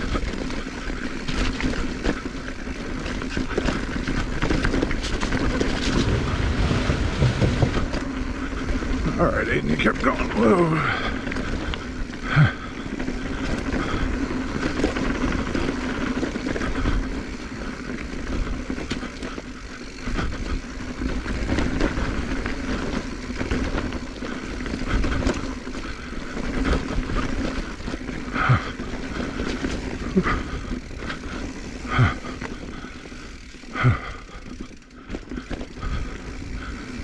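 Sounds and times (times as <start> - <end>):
bike rattling over rough ground: 0.0 - 37.0
bike tyres on dirt and rocks: 0.0 - 37.0.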